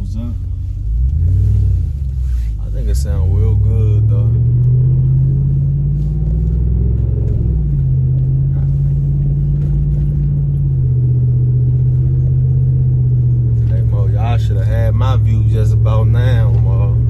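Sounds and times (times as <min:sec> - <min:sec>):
pickup engine droning: 0:00.0 - 0:17.0.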